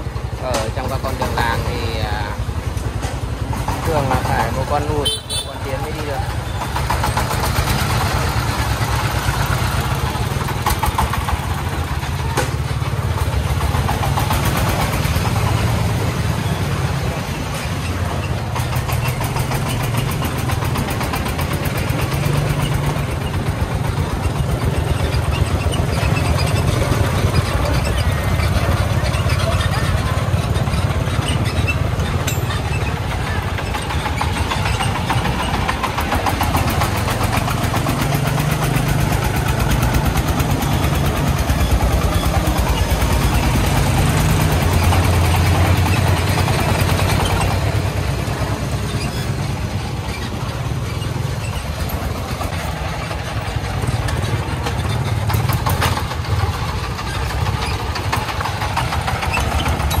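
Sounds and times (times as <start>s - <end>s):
diesel engine chugging: 0.0s - 60.0s.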